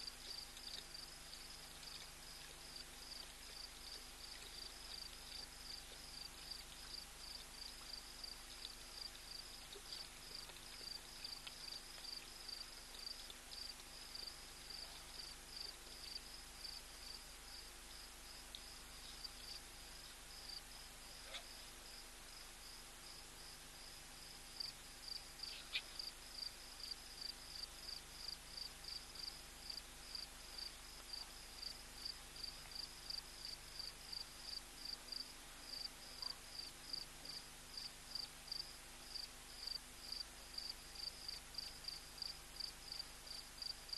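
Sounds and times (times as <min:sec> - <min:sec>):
crickets chirping: 0:00.0 - 0:43.9
faint low hum: 0:00.0 - 0:43.9.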